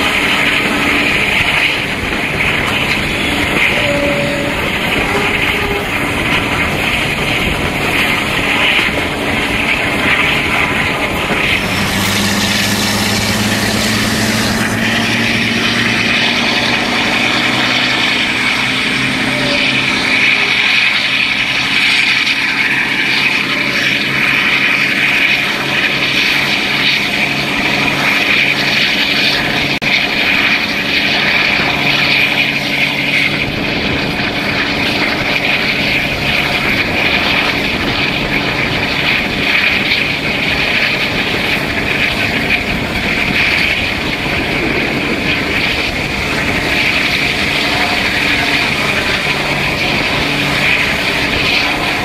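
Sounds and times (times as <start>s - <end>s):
diesel locomotive engines droning: 0.0s - 52.0s
train wheels on rails: 0.0s - 52.0s
wind: 0.0s - 52.0s.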